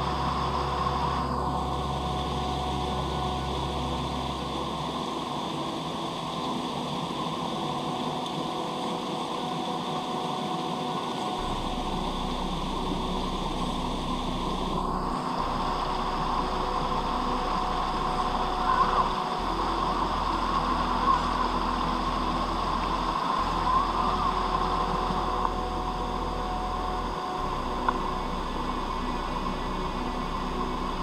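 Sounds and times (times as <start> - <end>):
faint whining tones: 0.0 - 31.0.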